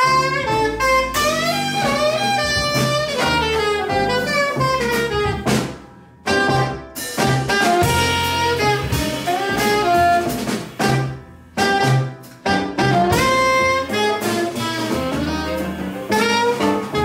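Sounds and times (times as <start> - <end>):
drum kit: 0.0 - 17.0
piano: 0.0 - 17.0
saxophone melody: 0.0 - 17.0
walking double bass: 0.0 - 17.0.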